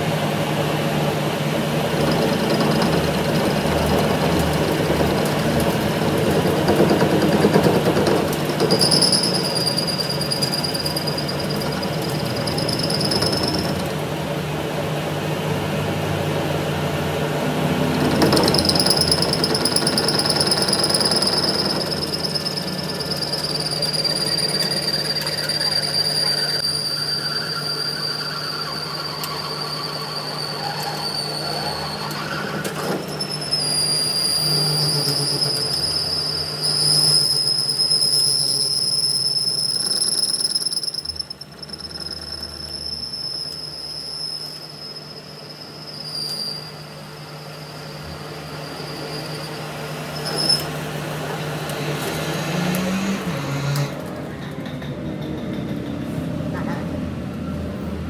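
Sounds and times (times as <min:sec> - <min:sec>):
metal cutting squeal: 0:01.9 - 0:14.1, 0:17.9 - 0:57.6.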